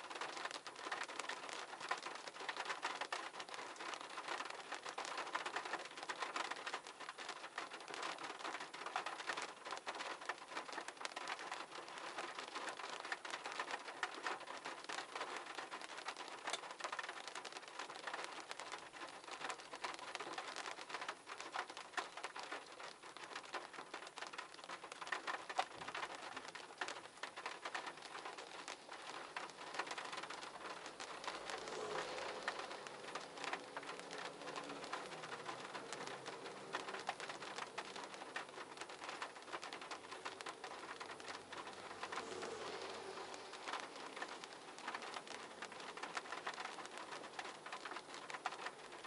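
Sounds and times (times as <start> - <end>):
dense patter of small ticks: 0.0 - 49.0.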